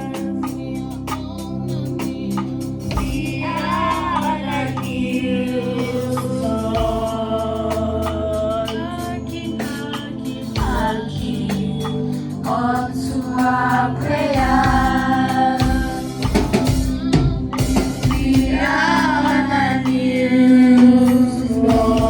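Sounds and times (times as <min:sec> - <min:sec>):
drums: 0:00.0 - 0:22.0
voices singing together: 0:00.0 - 0:22.0.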